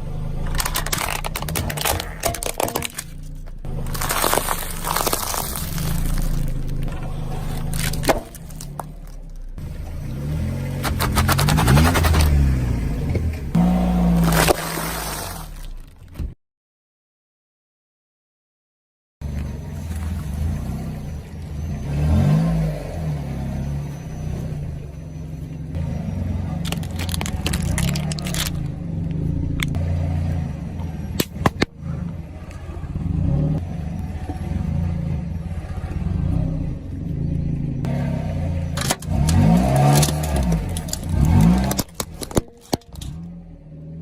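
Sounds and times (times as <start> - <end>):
car engine revving: 0.0 - 15.6, 19.2 - 44.0.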